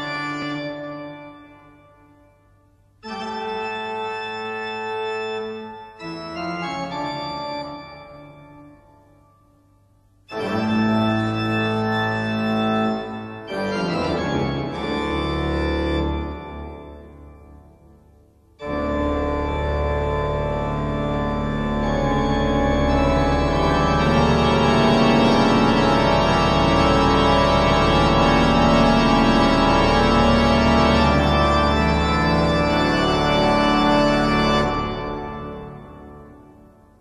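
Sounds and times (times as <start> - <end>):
sustained organ chords: 0.0 - 37.0.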